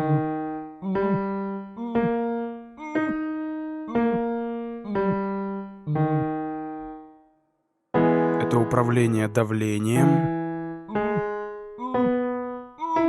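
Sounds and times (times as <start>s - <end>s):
piano notes and chords: 0.0s - 7.3s, 7.9s - 13.0s.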